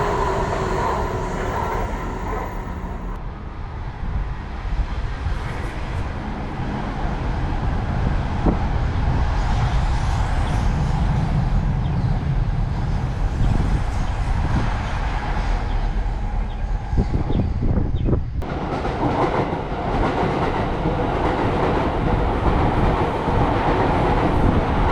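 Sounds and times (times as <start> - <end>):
train rumbling past: 0.0 - 24.9.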